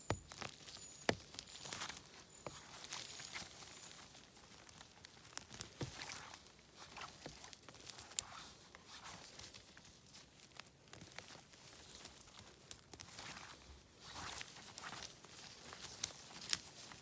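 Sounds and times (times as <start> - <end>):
twigs and undergrowth rustling: 0.0 - 17.0.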